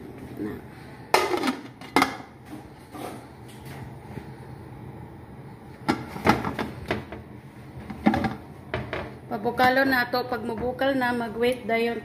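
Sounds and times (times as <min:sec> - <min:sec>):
faint background hum: 0:00.0 - 0:12.0.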